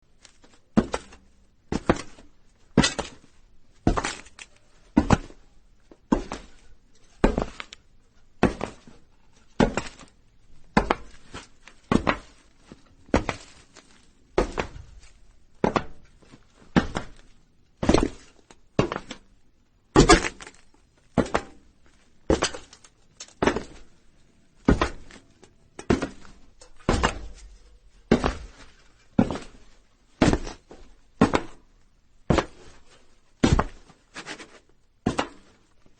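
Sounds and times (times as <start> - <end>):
footsteps on a roof: 0.0 - 19.4, 20.0 - 35.9.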